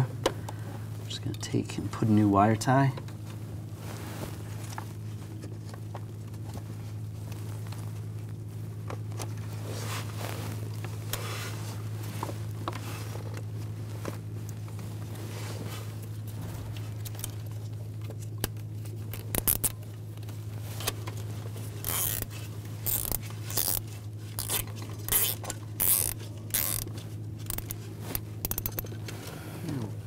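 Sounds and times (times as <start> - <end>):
steady low hum: 0.0 - 30.0
gloved hands rustling wiring: 3.0 - 30.0.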